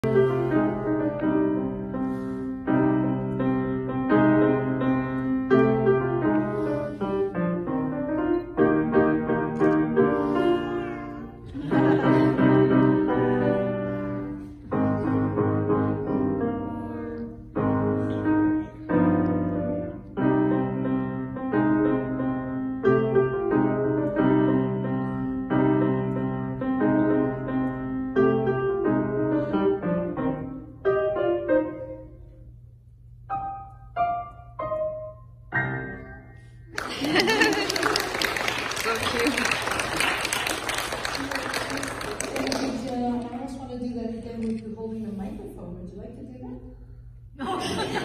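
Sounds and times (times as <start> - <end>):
grand piano playing: 0.0 - 46.4.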